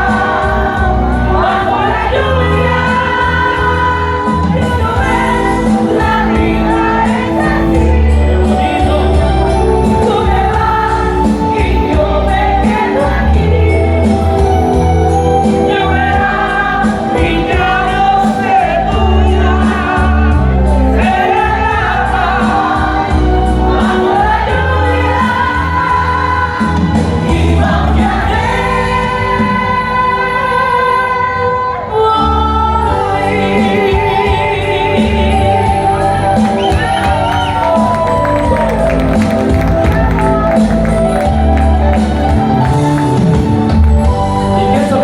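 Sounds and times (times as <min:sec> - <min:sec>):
band with strong bass line: 0:00.0 - 0:31.6, 0:32.2 - 0:45.0
person singing: 0:00.0 - 0:45.0.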